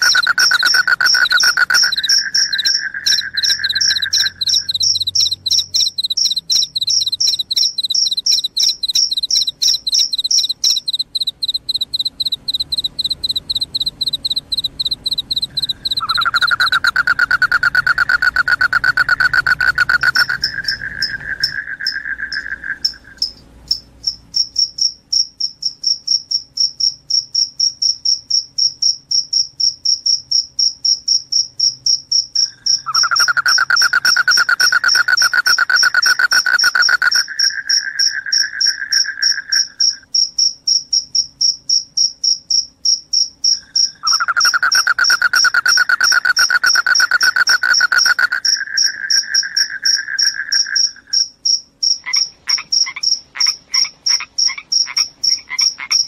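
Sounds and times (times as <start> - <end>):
crickets chirping: 0.0 - 56.0
lower insect trill: 0.0 - 56.0.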